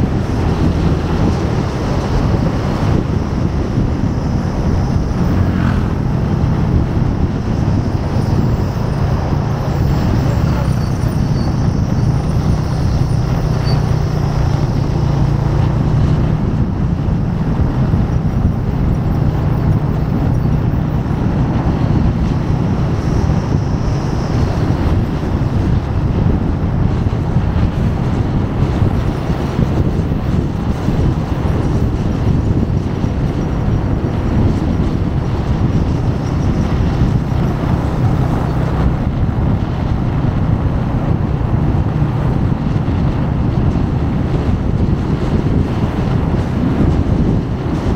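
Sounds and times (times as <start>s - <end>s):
motorcycle engine cruising: 0.0s - 47.9s
road noise: 0.0s - 47.9s
wind rush: 0.0s - 47.9s.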